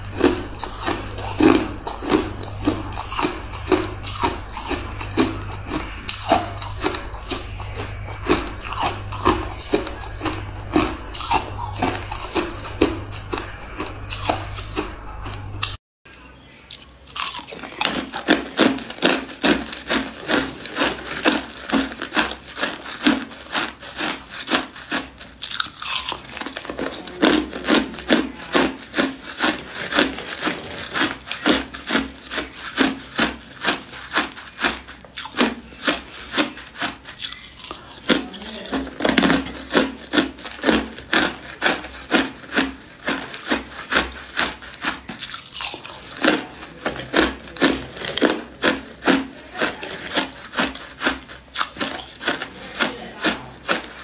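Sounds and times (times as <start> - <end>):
chewing crushed ice: 0.0 - 54.0.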